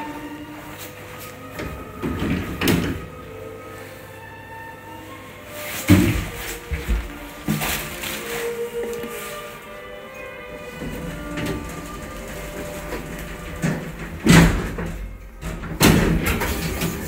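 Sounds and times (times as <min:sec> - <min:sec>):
elevator doors sliding: 0:00.0 - 0:17.0.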